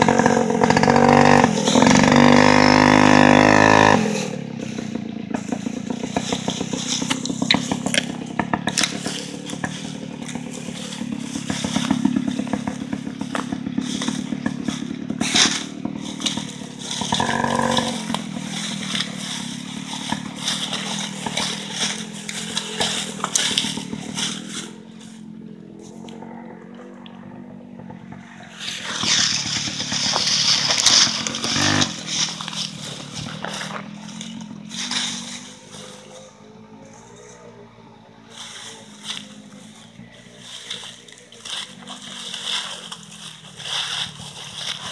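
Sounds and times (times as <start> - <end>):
dry leaves crunching underfoot: 0.0 - 44.9
motorcycle engine under load: 0.0 - 44.9.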